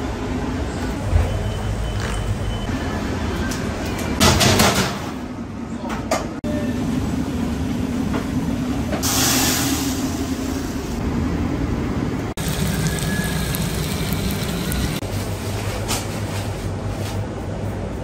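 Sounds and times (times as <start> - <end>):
kitchen machinery rumble and hum: 0.0 - 18.0.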